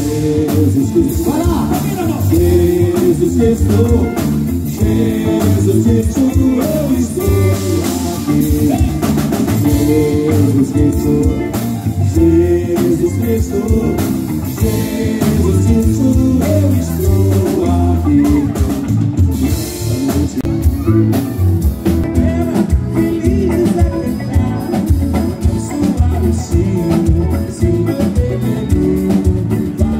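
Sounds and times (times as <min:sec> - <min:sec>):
drum kit beat: 0:00.0 - 0:29.9
electric guitars: 0:00.0 - 0:29.9
man singing: 0:00.0 - 0:29.9.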